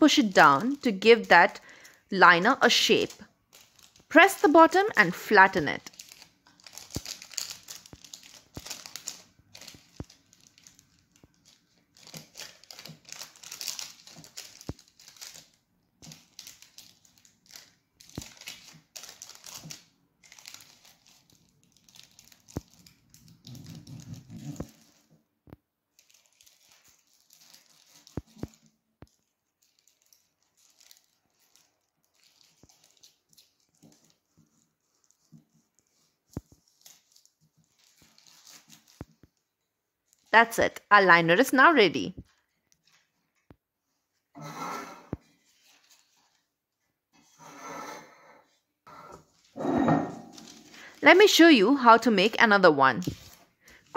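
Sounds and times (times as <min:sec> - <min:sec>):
baking paper crinkling: 0:00.0 - 0:25.2, 0:25.9 - 0:44.2, 0:45.1 - 0:47.4, 0:48.5 - 0:53.9.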